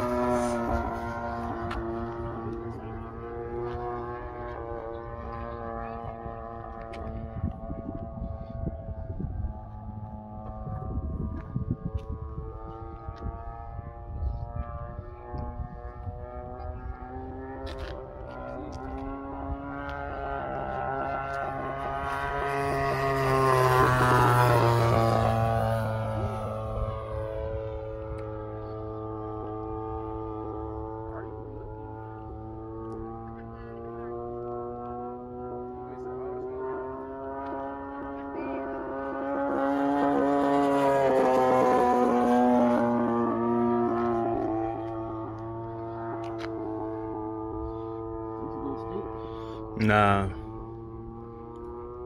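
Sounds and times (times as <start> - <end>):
model plane engine droning: 0.0 - 52.0.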